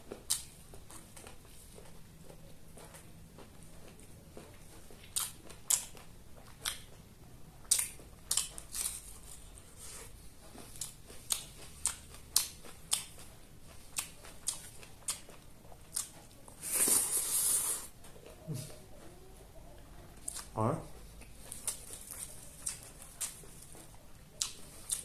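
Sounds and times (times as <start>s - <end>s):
crunchy chewing of food: 0.0s - 25.0s.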